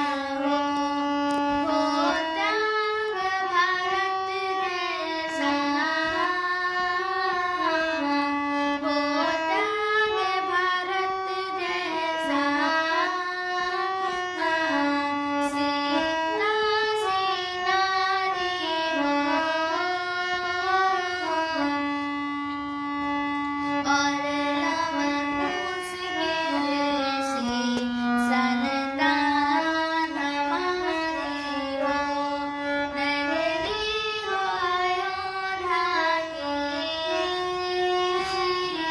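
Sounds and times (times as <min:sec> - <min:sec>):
devotional music melody: 0:00.0 - 0:38.9.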